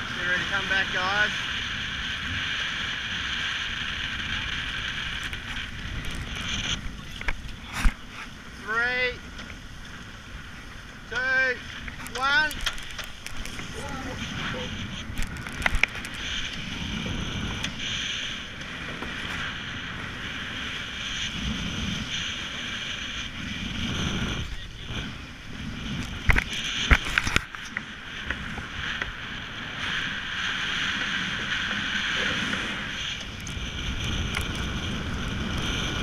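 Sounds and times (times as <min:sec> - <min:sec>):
water rushing past hulls: 0:00.0 - 0:36.0
wind buffeting microphone: 0:00.0 - 0:36.0.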